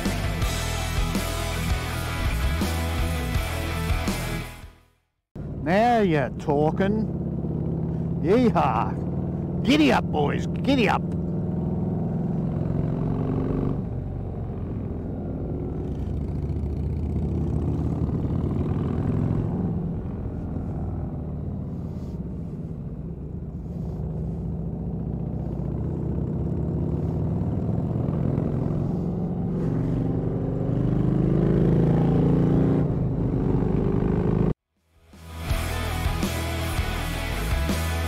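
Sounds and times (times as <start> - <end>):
motorcycle engine accelerating: 5.4 - 38.0.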